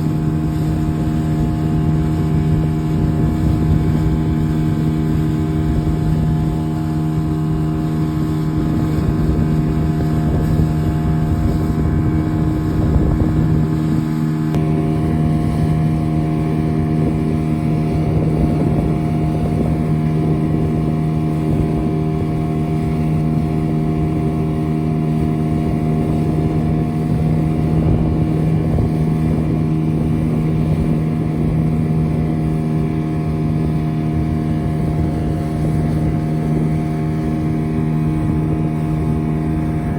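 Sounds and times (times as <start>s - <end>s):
motorboat engine running: 0.0s - 39.9s
wind on microphone: 0.0s - 39.9s.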